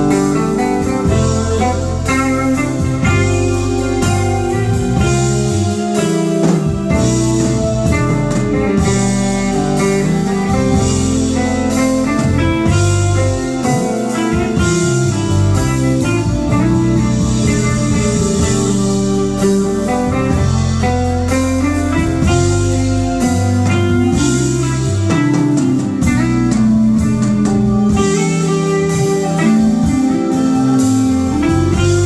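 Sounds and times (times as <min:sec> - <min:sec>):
bass notes: 0:00.0 - 0:32.0
drum kit: 0:00.0 - 0:32.0
electric guitar lines: 0:00.0 - 0:32.0.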